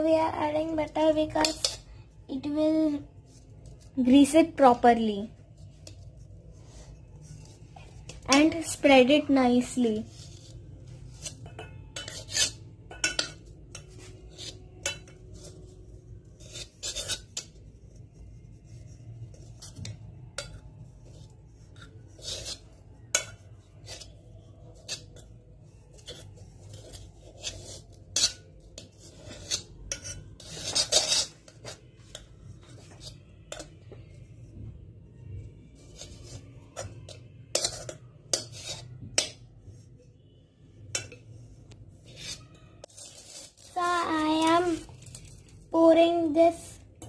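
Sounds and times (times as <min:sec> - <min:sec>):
metal spoon scraping a bowl: 0:00.8 - 0:02.0, 0:05.5 - 0:34.5, 0:35.3 - 0:45.7.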